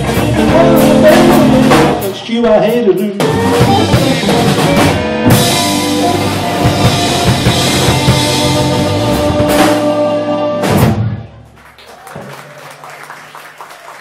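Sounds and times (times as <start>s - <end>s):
drum fills: 0.0s - 11.4s
blues band playing: 0.0s - 11.5s.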